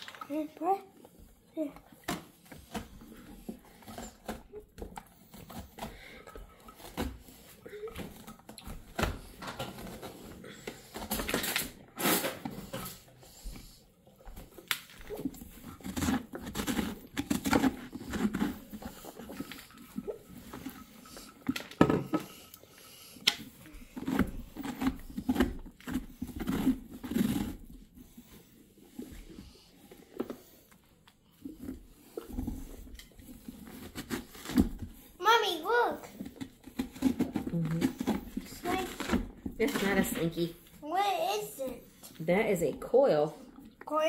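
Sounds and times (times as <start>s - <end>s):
knife scraping and cutting pumpkin: 0.0s - 44.0s.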